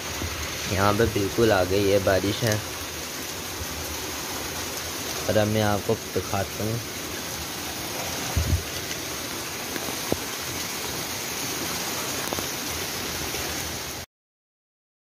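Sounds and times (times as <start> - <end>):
heavy rain falling: 0.0 - 14.1
running water rushing: 0.0 - 14.1.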